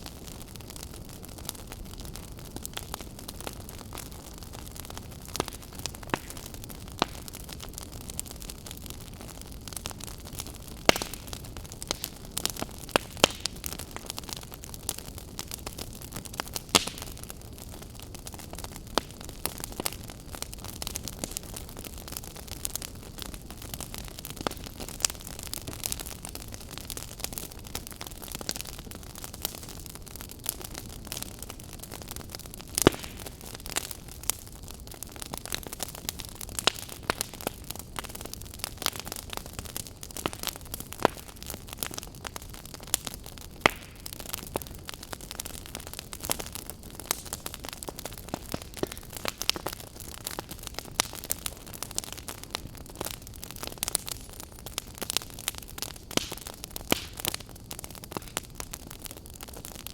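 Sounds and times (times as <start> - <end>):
burning wood popping: 0.0 - 59.9
campfire crackling: 0.0 - 59.9.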